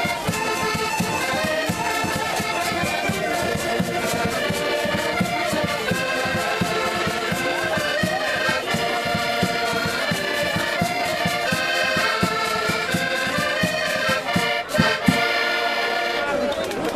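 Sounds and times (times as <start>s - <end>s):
plucked string instrument strumming: 0.0s - 16.6s
button accordions playing folk tune: 0.0s - 16.9s.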